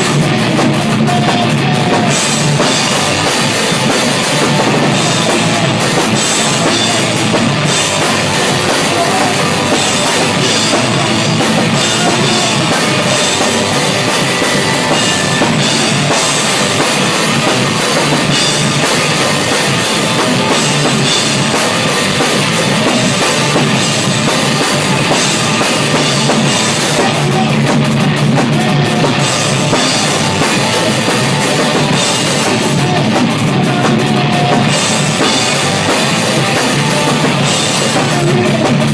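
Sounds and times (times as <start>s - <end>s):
drums: 0.0s - 38.9s
rock band playing: 0.0s - 38.9s.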